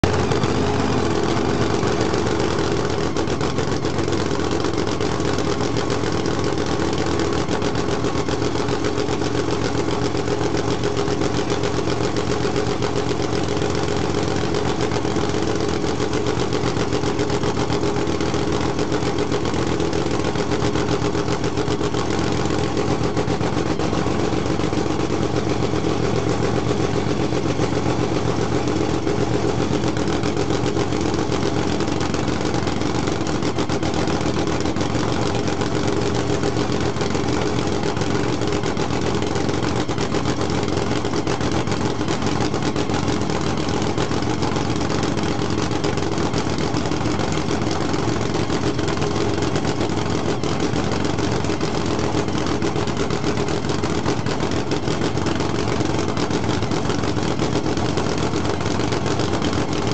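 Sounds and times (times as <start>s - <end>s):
loud engine idling: 0.0s - 59.9s.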